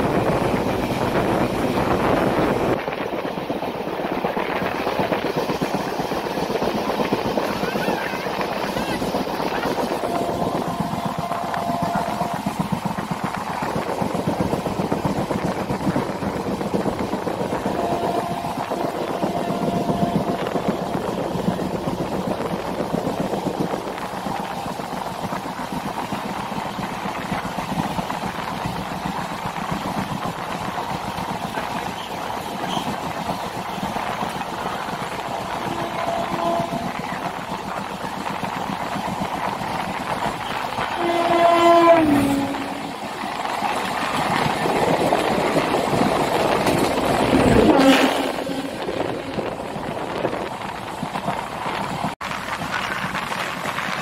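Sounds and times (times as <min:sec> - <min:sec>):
train coach running noise: 0:00.0 - 0:54.0.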